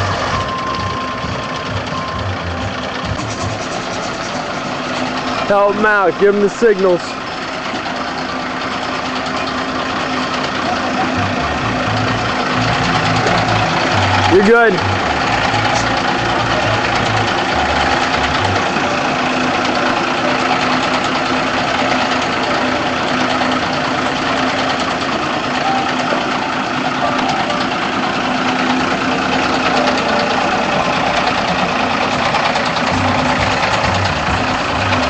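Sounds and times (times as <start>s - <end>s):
bus engine running: 0.0s - 35.0s.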